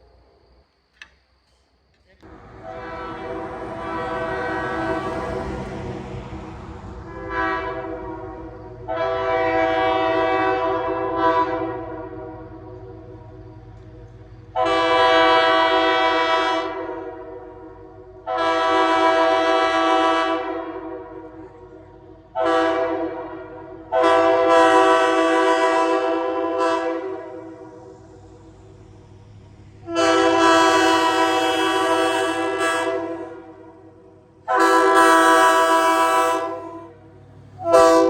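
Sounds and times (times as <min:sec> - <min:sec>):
train horn blasts: 0:02.2 - 0:28.1, 0:29.8 - 0:38.0.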